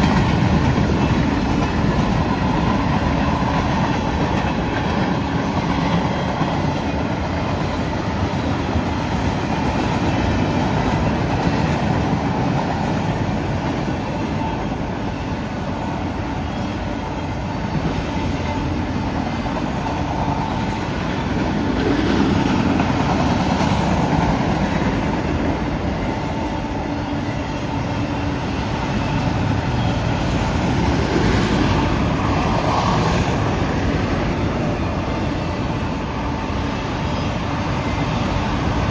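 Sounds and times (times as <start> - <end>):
freight train cars rolling: 0.0 - 38.9.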